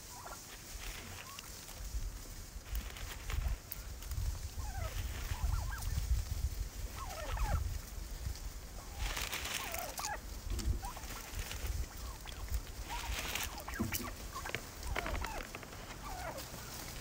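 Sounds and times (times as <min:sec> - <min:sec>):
rustle of dry leaves: 0:00.0 - 0:17.0
turkeys calling: 0:00.0 - 0:17.0.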